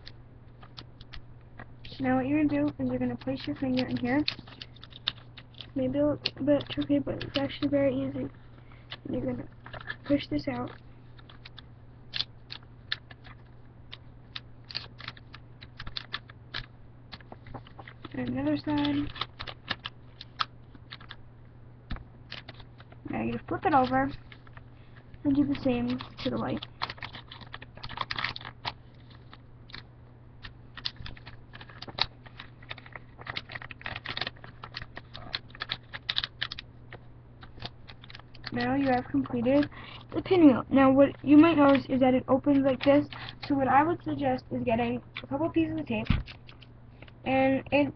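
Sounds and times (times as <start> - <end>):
low steady hum: 0.0 - 47.9
paper crinkling: 0.6 - 21.2, 21.9 - 47.2.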